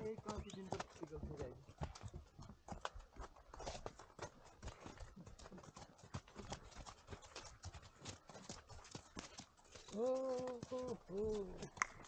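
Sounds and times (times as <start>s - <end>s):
horse hooves clip-clopping: 0.0s - 12.0s.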